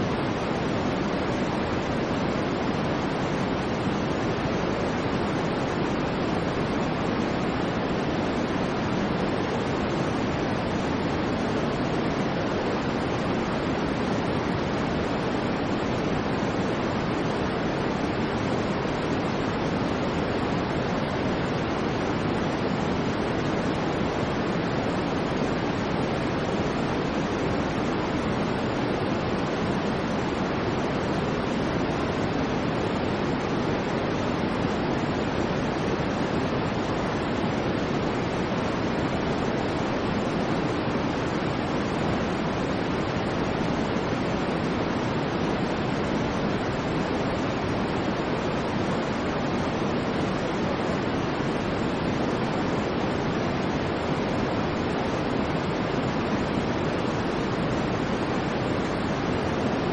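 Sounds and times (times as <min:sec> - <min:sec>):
electronic white noise: 0:00.0 - 0:59.9.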